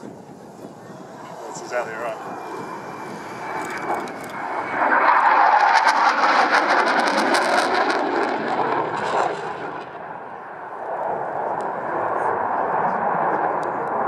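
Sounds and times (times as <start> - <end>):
jet engines passing: 0.0 - 14.0.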